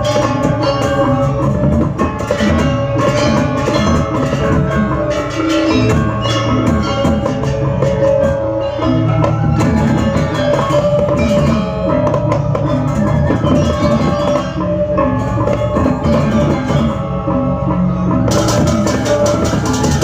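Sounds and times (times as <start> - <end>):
gamelan gong-chimes: 0.0 - 20.0.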